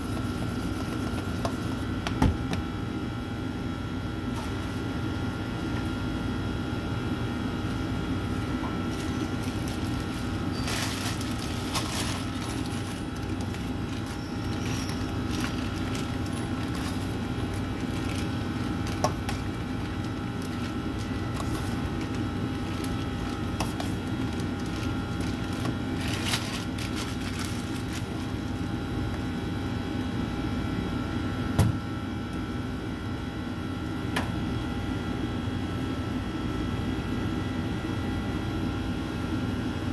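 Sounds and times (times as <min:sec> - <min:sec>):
bakery machinery humming: 0:00.0 - 0:39.9.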